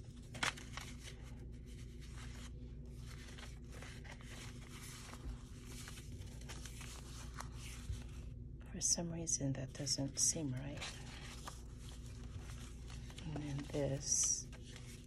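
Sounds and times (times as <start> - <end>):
paper rustling: 0.0 - 8.4, 9.8 - 15.0.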